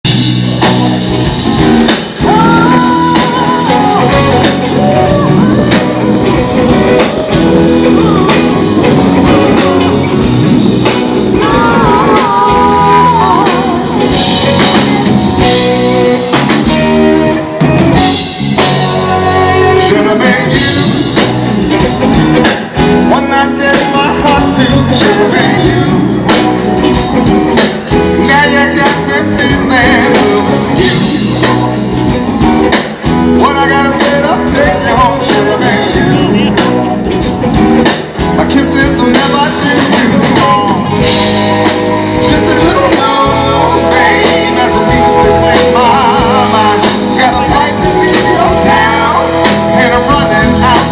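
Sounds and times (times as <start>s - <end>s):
drum kit: 0.0s - 50.9s
electric guitar: 0.0s - 50.9s.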